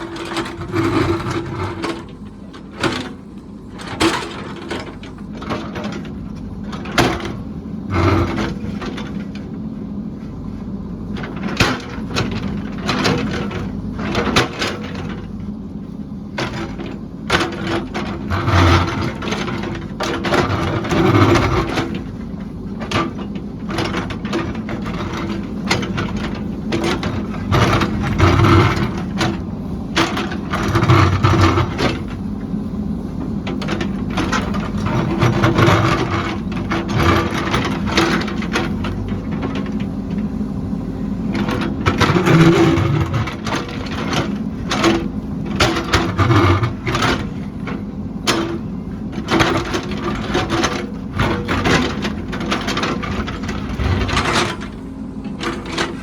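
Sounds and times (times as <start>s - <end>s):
machine clanks and knocks: 0.0s - 15.6s, 16.2s - 56.0s
heavy machine engine running: 0.0s - 56.0s.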